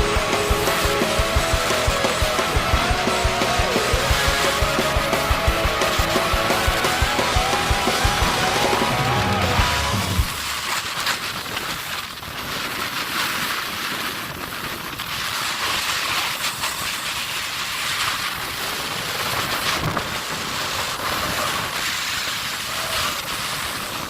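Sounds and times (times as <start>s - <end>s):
snowboard sliding over snow: 0.0s - 24.0s.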